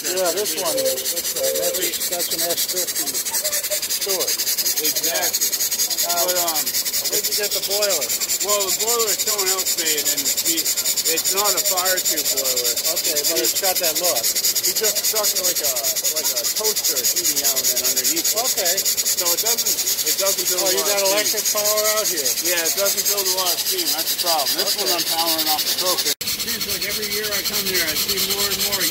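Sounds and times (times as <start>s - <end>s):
model steam engine chuffing: 0.0s - 28.9s.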